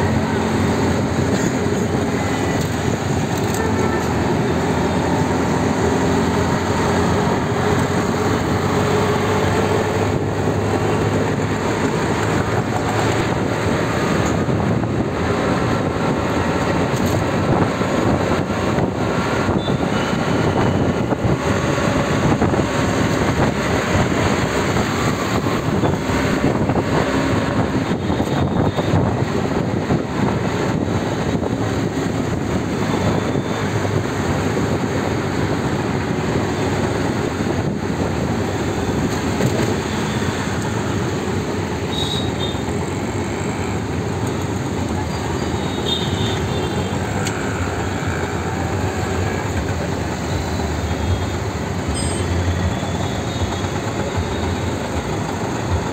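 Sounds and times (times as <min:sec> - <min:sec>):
road noise and traffic: 0:00.0 - 0:55.9.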